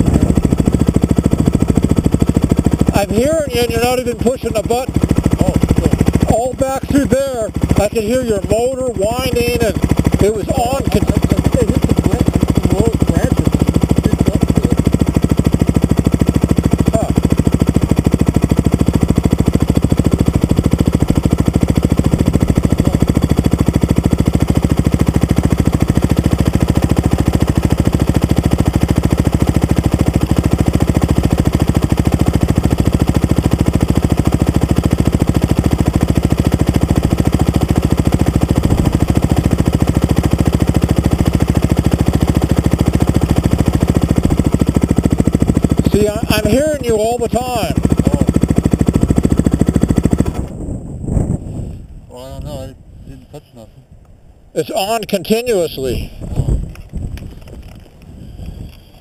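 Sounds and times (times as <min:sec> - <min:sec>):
dirt bike engine idling: 0:00.0 - 0:59.0.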